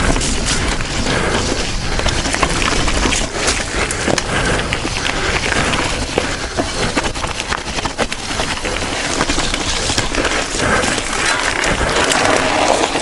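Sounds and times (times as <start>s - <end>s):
bike knocking and rattling: 0.0s - 13.0s
tyres crunching over dirt: 0.0s - 13.0s.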